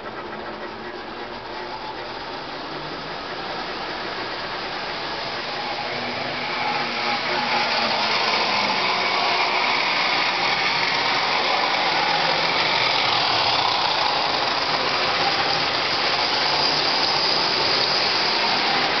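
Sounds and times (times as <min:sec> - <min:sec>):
model train rolling rumble: 0:00.0 - 0:19.0.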